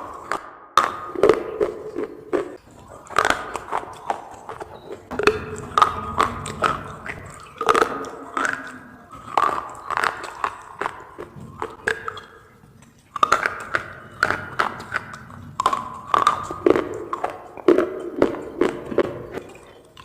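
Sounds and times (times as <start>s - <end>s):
crunching baked clay: 0.0s - 20.0s.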